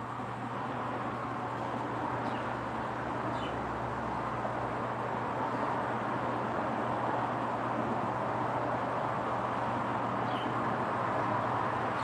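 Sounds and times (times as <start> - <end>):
distant traffic: 0.0 - 12.0.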